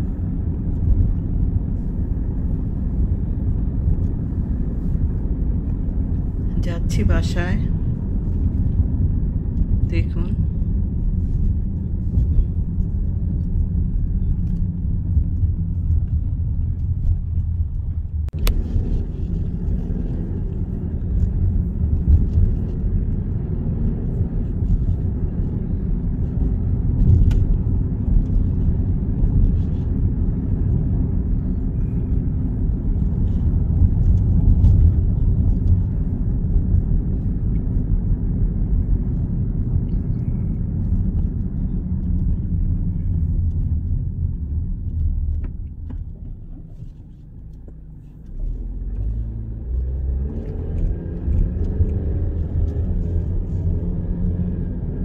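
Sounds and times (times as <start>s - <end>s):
car driving interior rumble: 0.0s - 55.0s.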